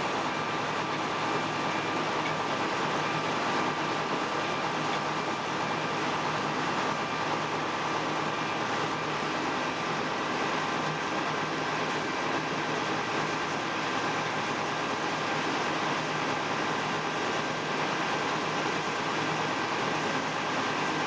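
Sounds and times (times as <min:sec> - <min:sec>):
locomotive diesel engine running: 0:00.0 - 0:21.0.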